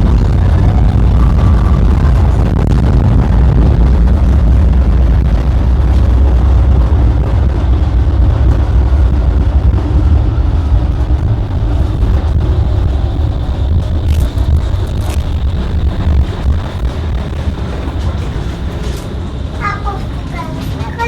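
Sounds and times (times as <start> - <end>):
tram wheels rumbling on rails: 0.0 - 21.0.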